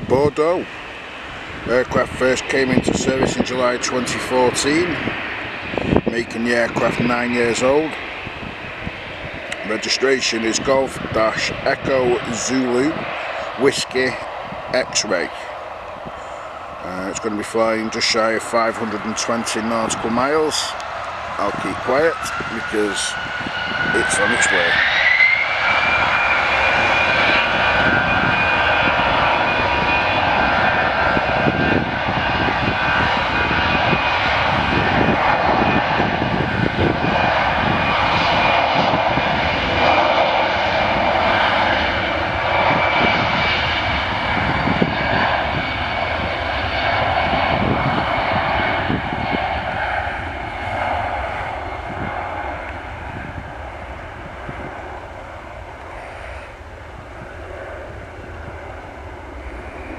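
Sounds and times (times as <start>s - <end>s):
jet engines roaring with whine: 0.0s - 59.9s.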